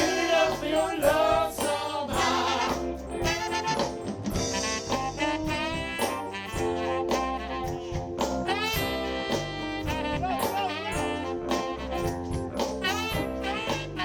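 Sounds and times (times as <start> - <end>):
bass: 0.0 - 14.0
drums: 0.0 - 14.0
keyboard: 0.0 - 14.0
saxophone: 0.0 - 14.0
trombone: 0.0 - 14.0
trumpet: 0.0 - 14.0.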